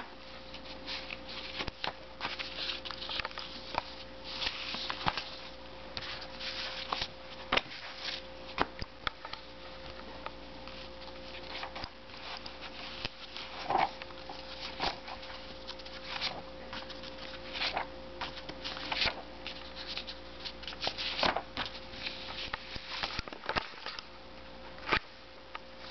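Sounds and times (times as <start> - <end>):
faint hum: 0.0 - 25.9
paper pages rustling: 0.2 - 24.1.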